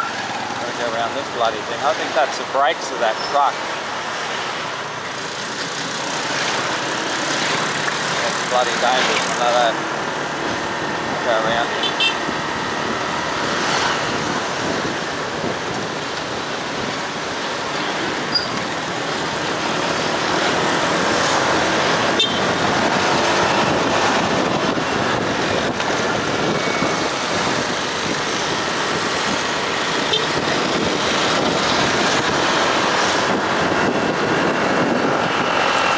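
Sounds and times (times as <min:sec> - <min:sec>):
wind and road noise: 0:00.0 - 0:35.9.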